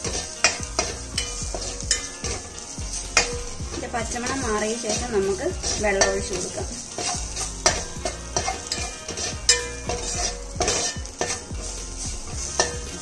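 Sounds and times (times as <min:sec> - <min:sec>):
food sizzling: 0:00.0 - 0:13.0
spoon scraping metal pan: 0:00.0 - 0:13.0.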